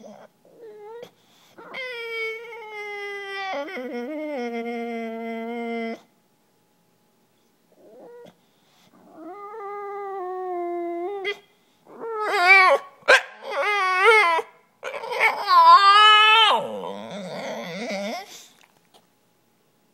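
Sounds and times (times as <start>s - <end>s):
dog whining: 0.0s - 6.1s, 7.7s - 19.0s.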